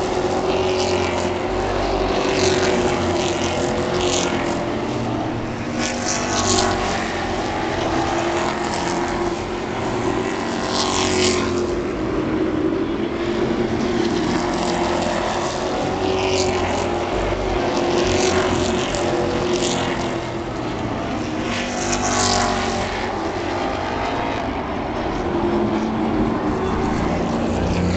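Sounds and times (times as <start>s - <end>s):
race truck engines droning: 0.0s - 27.9s
trucks whooshing past: 0.0s - 27.9s.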